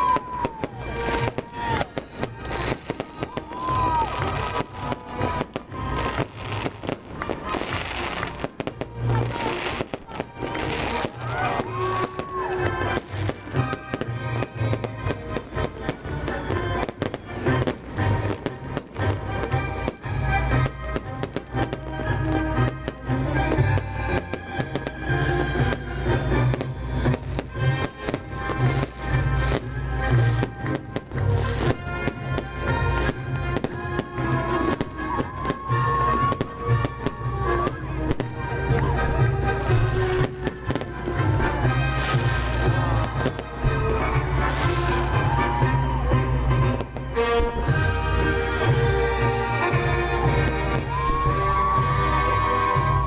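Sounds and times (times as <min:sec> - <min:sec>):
fireworks bursting: 0:00.0 - 0:53.0
loud music: 0:00.0 - 0:53.0
song playing loudly: 0:00.0 - 0:53.0.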